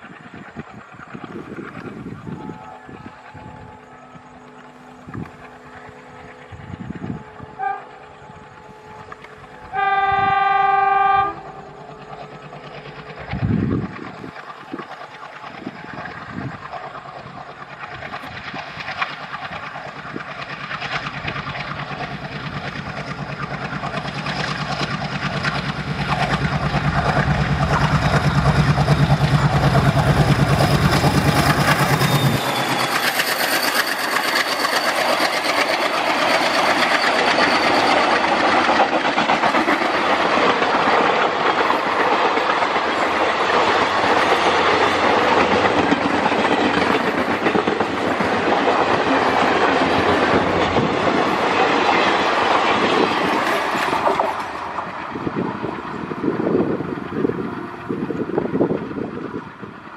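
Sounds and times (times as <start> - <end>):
diesel locomotive engine chugging: 0.0 - 59.9
train wheels clickety-clack: 0.0 - 59.9.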